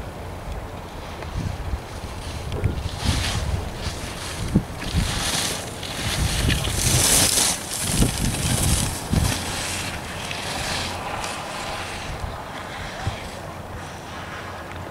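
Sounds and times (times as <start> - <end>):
wind rumbling on microphone: 0.0 - 14.9
skis scraping over snow: 0.9 - 14.9.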